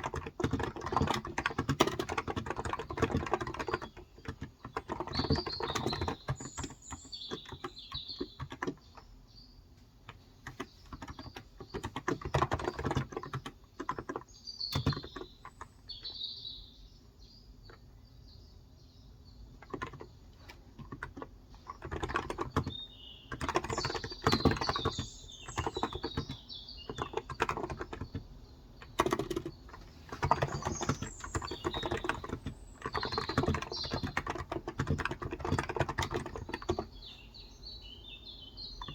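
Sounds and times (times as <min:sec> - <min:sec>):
keyboard typing: 0:00.0 - 0:09.1, 0:10.0 - 0:16.0, 0:19.6 - 0:37.1
birds chirping: 0:00.0 - 0:38.9.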